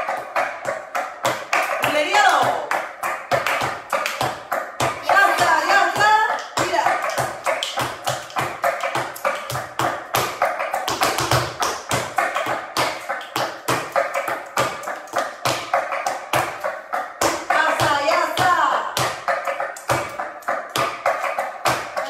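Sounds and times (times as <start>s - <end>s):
flamenco music: 0.0s - 22.0s
shoes tapping on wooden floor: 0.0s - 22.0s.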